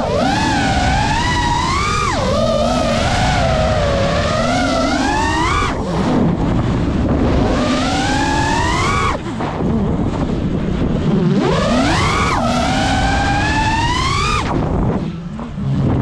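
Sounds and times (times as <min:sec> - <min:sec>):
drone motors whining: 0:00.0 - 0:16.0
steady rushing noise: 0:00.0 - 0:16.0.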